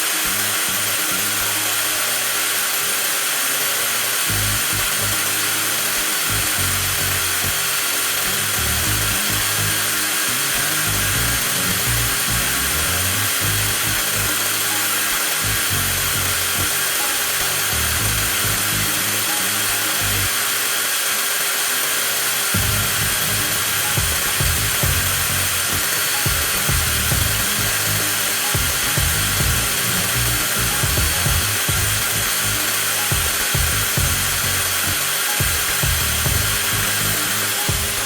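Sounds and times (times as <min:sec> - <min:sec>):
angle grinder high whine: 0:00.0 - 0:38.0.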